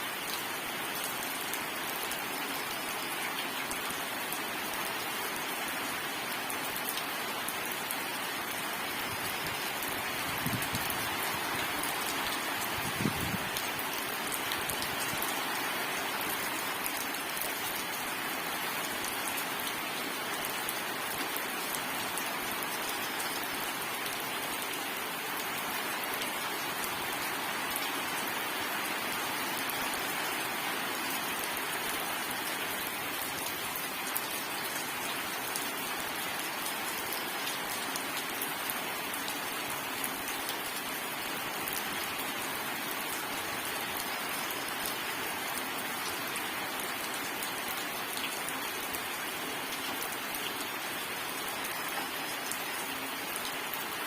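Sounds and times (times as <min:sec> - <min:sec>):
rain falling on surfaces: 0:00.0 - 0:54.0.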